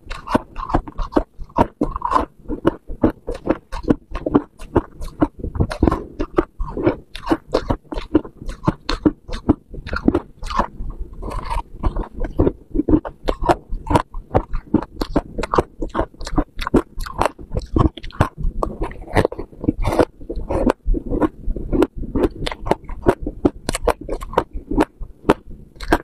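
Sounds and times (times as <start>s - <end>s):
frost being chewed crunching: 0.0s - 26.0s.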